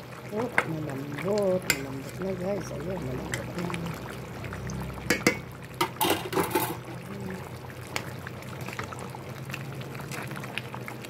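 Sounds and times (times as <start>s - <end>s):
stew bubbling in pot: 0.0s - 11.0s.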